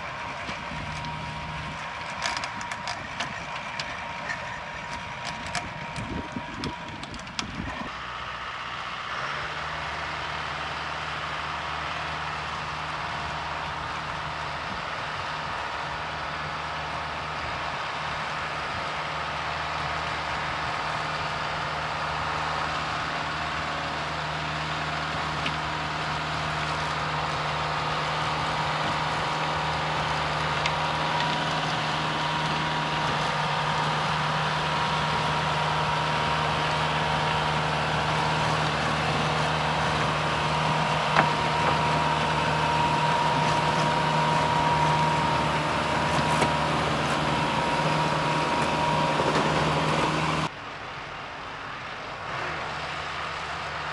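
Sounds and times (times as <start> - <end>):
rotary tiller whine: 0.0 - 50.5
tractor engine running: 0.0 - 53.9.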